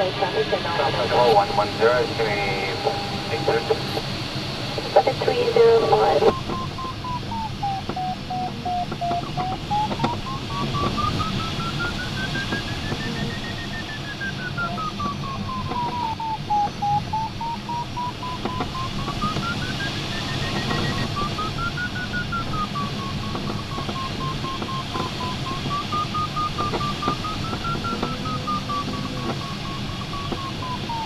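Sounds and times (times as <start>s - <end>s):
rush of air in cockpit: 0.0s - 31.0s
variometer beeping tone: 0.0s - 31.0s.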